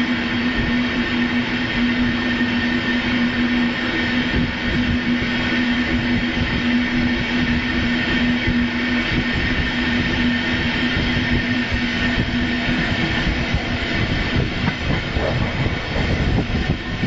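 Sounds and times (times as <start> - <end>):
steady train hum: 0.0 - 17.0
train wheels rolling: 0.1 - 17.0.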